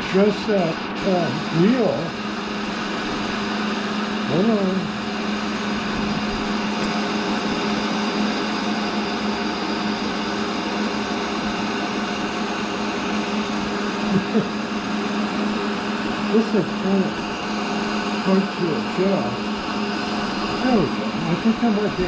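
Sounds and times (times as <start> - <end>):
grinder motor whirring and humming: 0.0 - 22.0.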